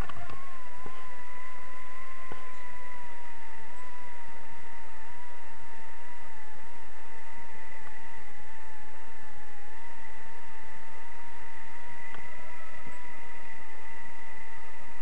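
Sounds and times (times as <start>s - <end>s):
high wavering tone: 0.0s - 15.0s.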